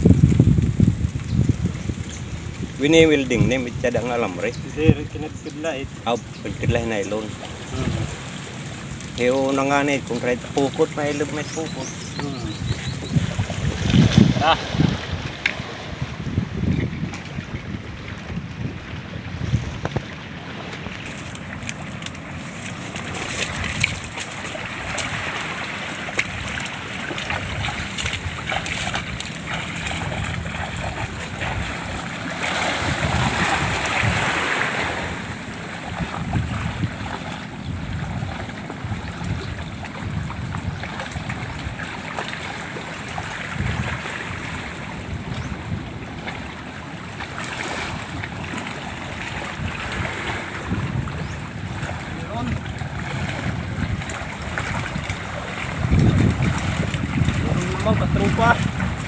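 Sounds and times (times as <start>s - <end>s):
shallow sea water washing: 0.0s - 59.0s
wind buffeting microphone: 0.0s - 59.0s
person wading through water: 5.1s - 59.0s.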